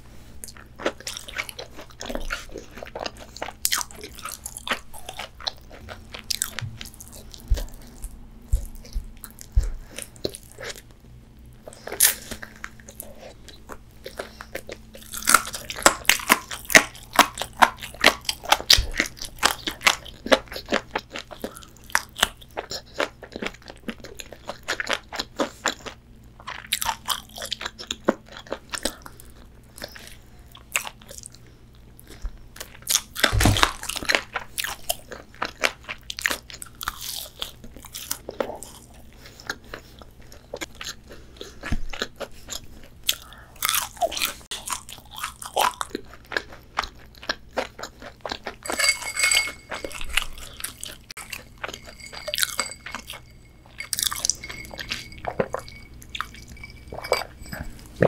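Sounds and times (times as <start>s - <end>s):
crunching fried chicken: 0.4s - 10.9s, 11.6s - 48.7s.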